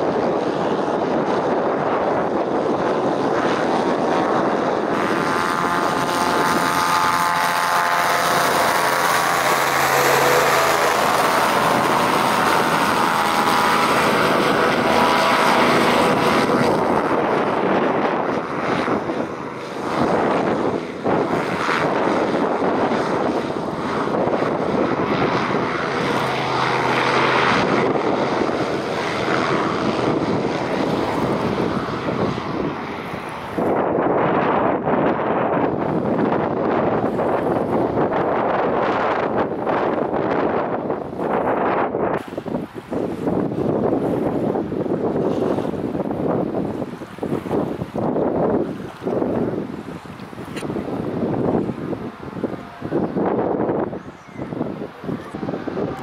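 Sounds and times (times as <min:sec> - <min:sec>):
hovercraft engine drone: 0:00.0 - 0:56.0
wind buffeting microphone: 0:00.0 - 0:56.0.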